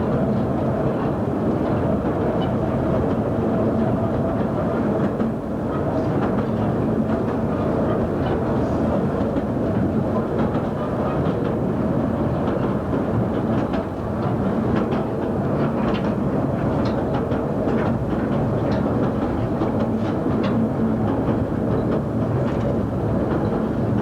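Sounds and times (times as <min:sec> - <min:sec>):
train wheels rumbling on rails: 0:00.1 - 0:24.0.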